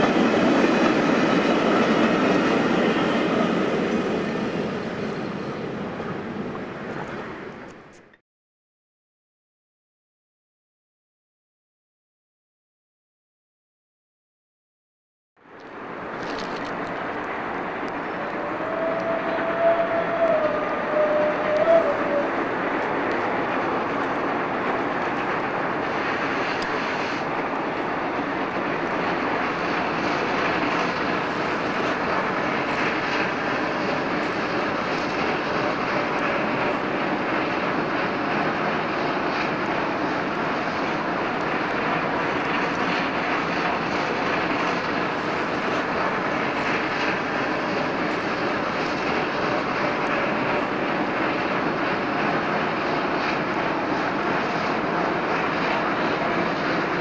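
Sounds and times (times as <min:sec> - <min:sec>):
steam locomotive exhaust roar: 0:00.0 - 0:07.7, 0:15.4 - 0:57.0
train rolling: 0:00.0 - 0:08.2, 0:15.4 - 0:57.0.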